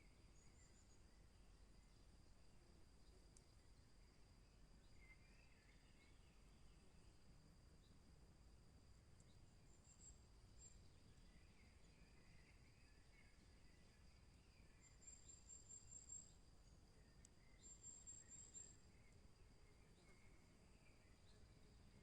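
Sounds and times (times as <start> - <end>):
distant songbirds singing: 0.0 - 22.0.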